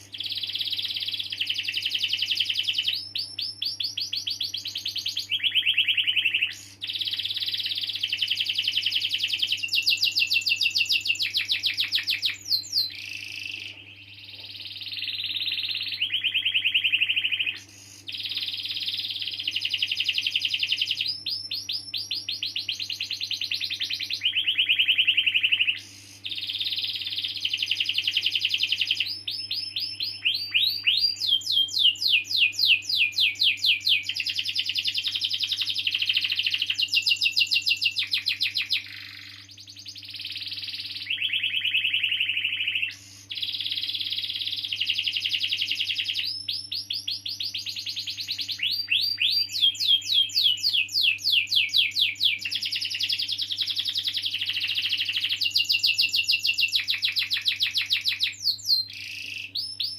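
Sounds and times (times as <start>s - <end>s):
canary singing: 0.0s - 59.9s
faint steady hum: 0.0s - 59.9s.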